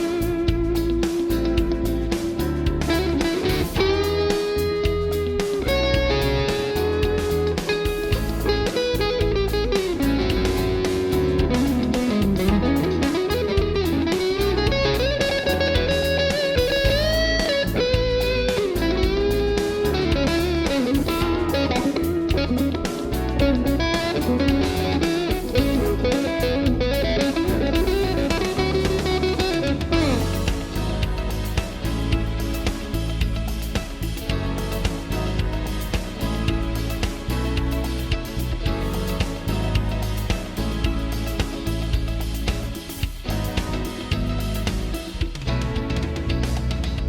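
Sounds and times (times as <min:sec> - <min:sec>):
backing track bass and drums: 0:00.0 - 0:47.0
electric guitar lead line: 0:00.0 - 0:47.0.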